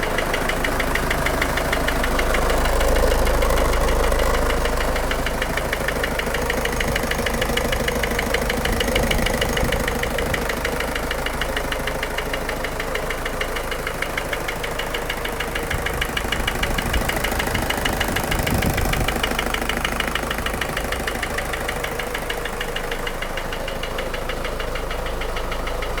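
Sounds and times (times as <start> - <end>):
diesel engine idling with knock: 0.0 - 26.0.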